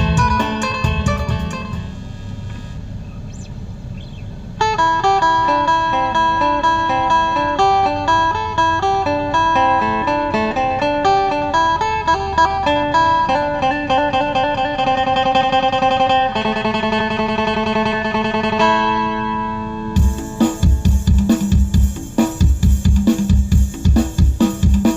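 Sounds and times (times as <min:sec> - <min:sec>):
plucked lute melody: 0:00.0 - 0:01.9, 0:04.6 - 0:24.9.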